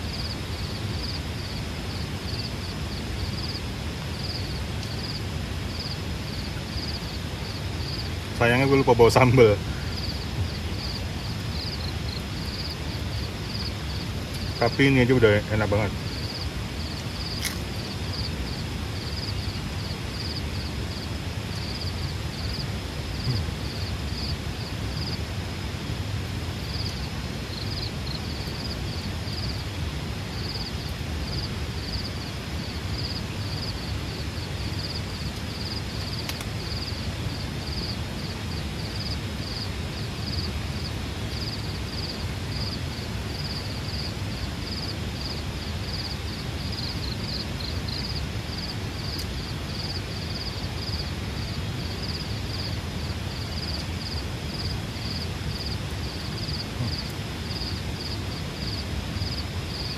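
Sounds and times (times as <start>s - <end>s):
insects trilling in pulses: 0.0s - 25.4s, 26.6s - 59.9s
steady rain: 0.0s - 59.9s.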